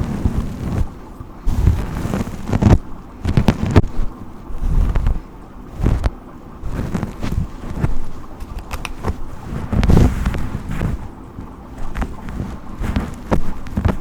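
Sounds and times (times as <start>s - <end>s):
brush strokes rustling: 0.0s - 14.0s.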